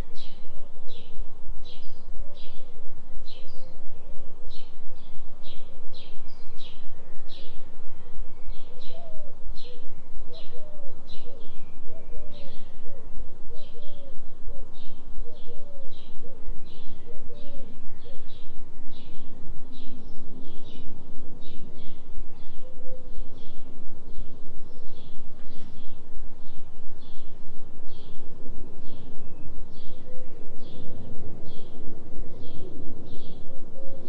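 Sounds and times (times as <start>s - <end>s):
low binaural tone hum: 0.0s - 34.0s.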